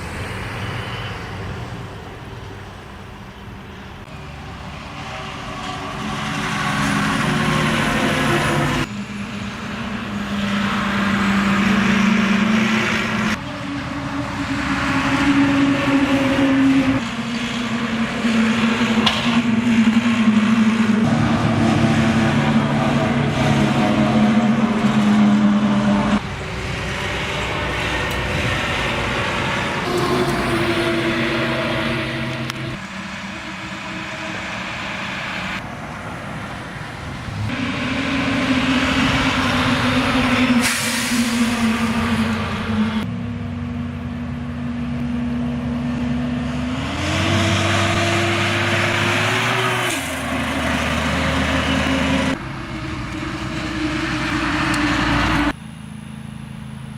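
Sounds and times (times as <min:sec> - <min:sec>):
truck diesel engine passing: 0:00.0 - 0:56.9
tyre noise on road: 0:00.0 - 0:56.9.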